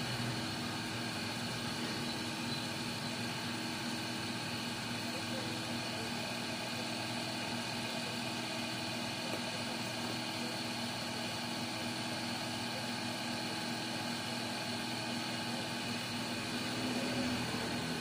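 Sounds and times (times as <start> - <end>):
workshop machinery humming: 0.0 - 18.0.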